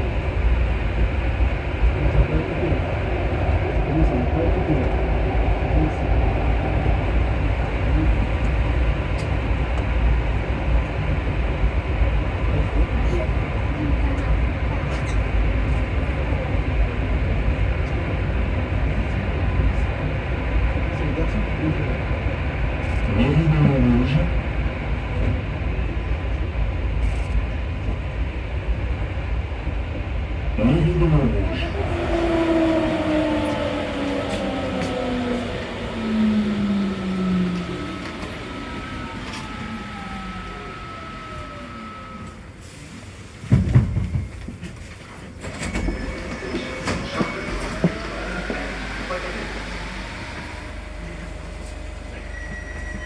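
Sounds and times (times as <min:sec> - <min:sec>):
faint train whine: 0:00.0 - 0:53.0
metro train rumbling through tunnel: 0:00.0 - 0:53.0.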